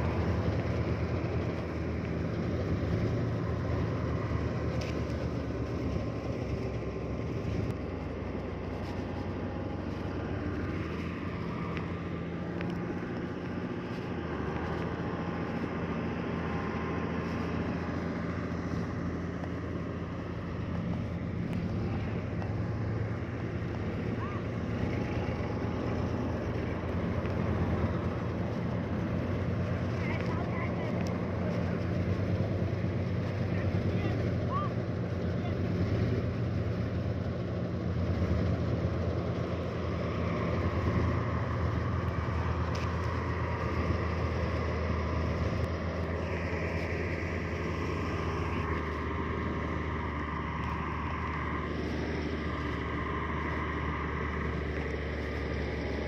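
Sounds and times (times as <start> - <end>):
diesel earthmoving machinery running: 0.0 - 56.0.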